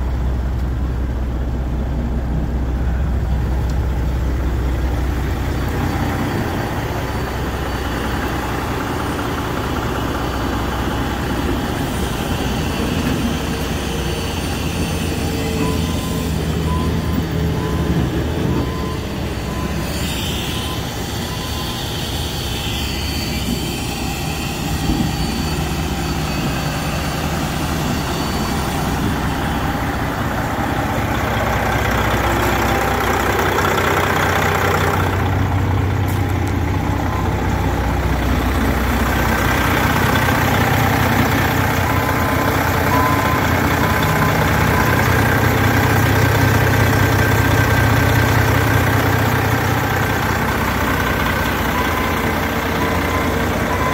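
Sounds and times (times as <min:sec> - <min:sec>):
diesel truck engine idling: 0:00.0 - 0:23.4, 0:24.1 - 0:53.9.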